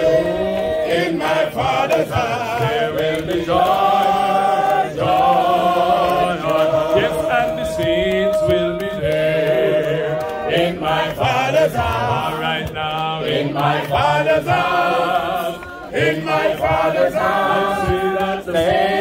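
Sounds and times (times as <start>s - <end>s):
group singing a hymn unaccompanied: 0.0s - 19.0s.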